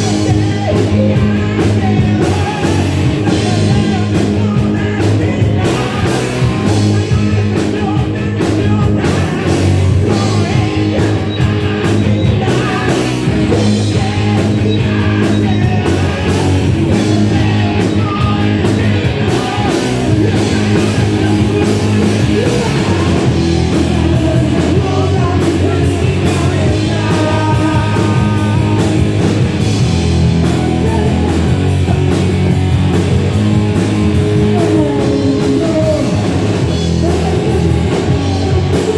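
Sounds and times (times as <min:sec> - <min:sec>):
drums: 0:00.0 - 0:38.9
person singing: 0:00.0 - 0:38.9
rock band playing: 0:00.0 - 0:38.9.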